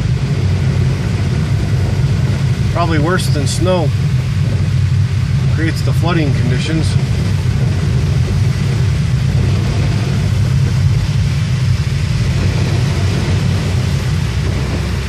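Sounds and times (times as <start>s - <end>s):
car engine and tyre drone: 0.0s - 15.0s
hiss of wet road: 0.0s - 15.0s.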